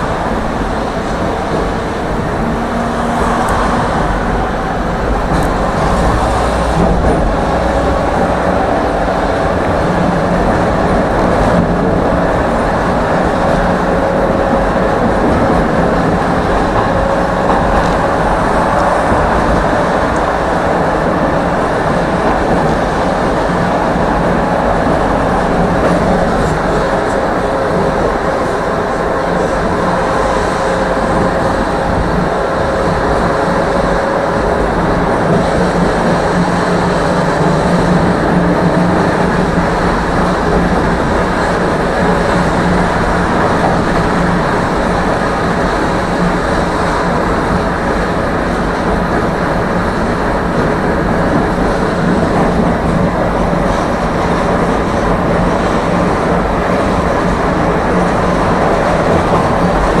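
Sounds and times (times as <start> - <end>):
tram wheels rumbling on rails: 0.0 - 60.0.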